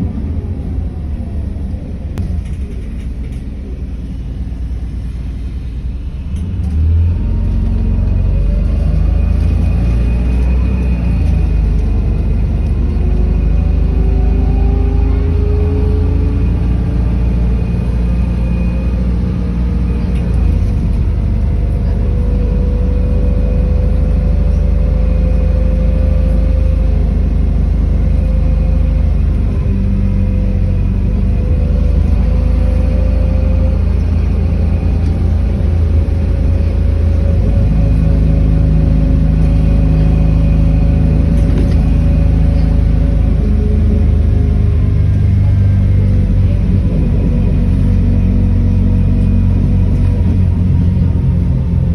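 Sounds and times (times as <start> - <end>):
bus engine rumble: 0.0 - 51.9.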